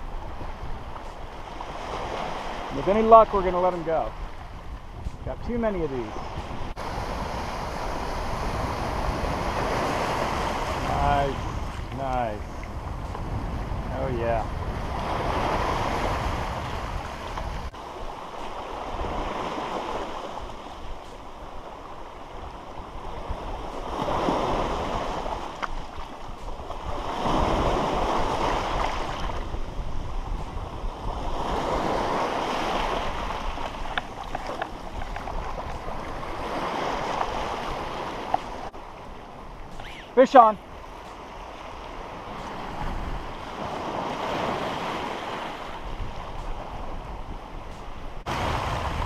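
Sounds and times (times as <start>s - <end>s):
waves washing over cobble beach: 0.0s - 49.0s.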